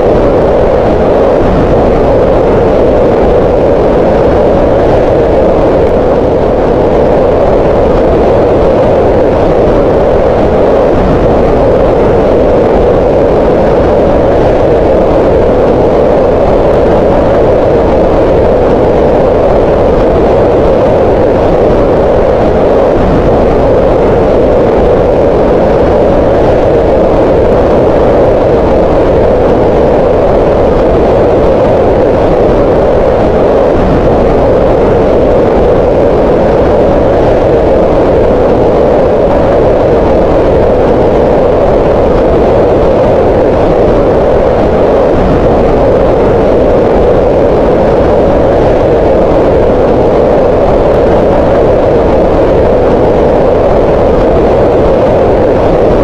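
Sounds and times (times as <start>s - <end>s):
mid-pitched synthetic noise hiss: 0.0s - 56.0s.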